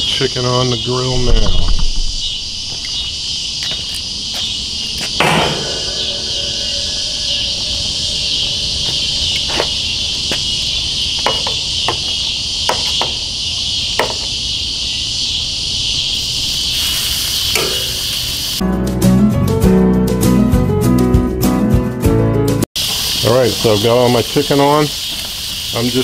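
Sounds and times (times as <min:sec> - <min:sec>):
insects buzzing: 0:00.0 - 0:18.6, 0:22.8 - 0:26.0.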